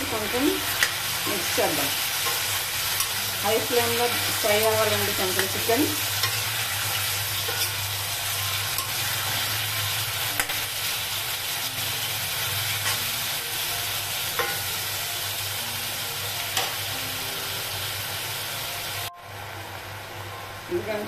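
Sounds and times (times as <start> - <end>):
chicken sizzling in a pan: 0.0 - 19.1.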